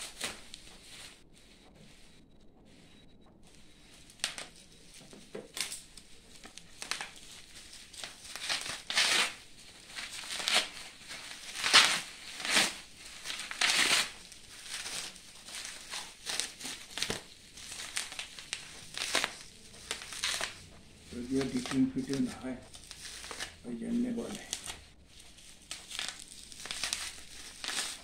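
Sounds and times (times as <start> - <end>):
plastic wrap crinkling: 0.0 - 2.0, 3.5 - 28.0.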